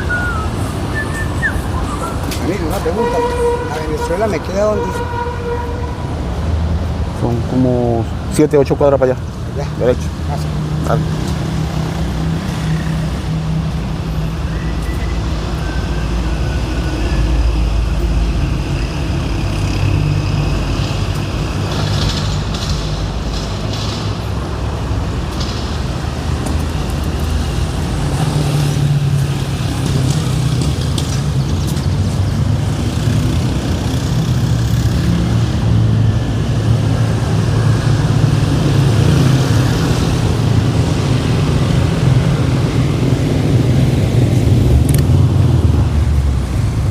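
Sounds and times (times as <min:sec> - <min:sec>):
traffic engines rumbling: 0:00.0 - 0:46.9.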